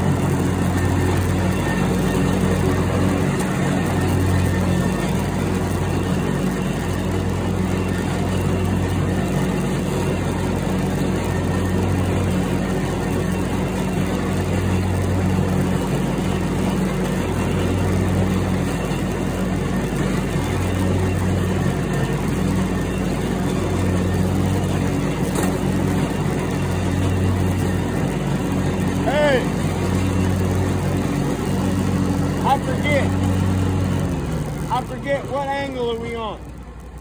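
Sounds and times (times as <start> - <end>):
riding mower engine drone: 0.0 - 37.0.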